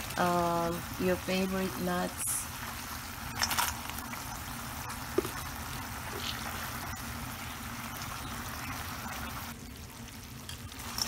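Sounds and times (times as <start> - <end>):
sauce bubbling in a pan: 0.0 - 11.0.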